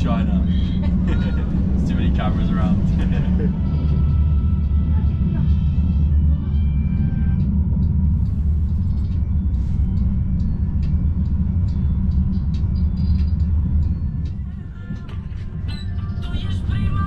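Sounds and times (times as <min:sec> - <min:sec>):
large engine rumbling: 0:00.0 - 0:17.0.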